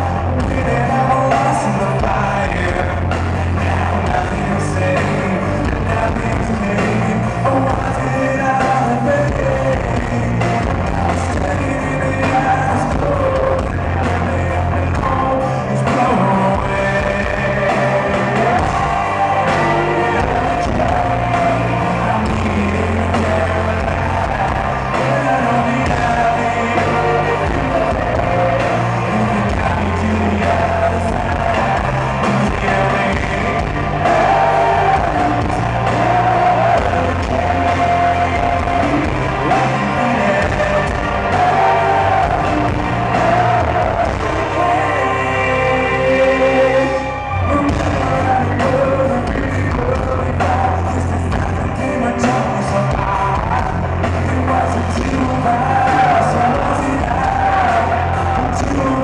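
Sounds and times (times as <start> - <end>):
bass guitar: 0.0 - 59.0
drums: 0.0 - 59.0
electric guitars: 0.0 - 59.0
man singing: 0.0 - 59.0.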